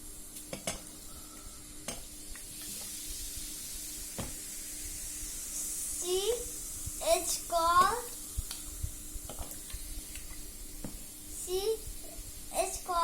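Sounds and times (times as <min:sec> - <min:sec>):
fizzing hiss in a glass: 0:02.0 - 0:13.0.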